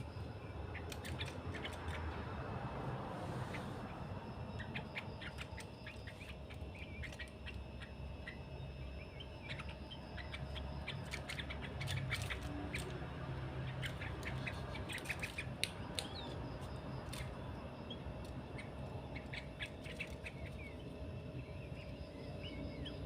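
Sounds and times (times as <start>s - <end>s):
birds chirping: 0.0s - 23.0s
low hum: 0.0s - 23.0s.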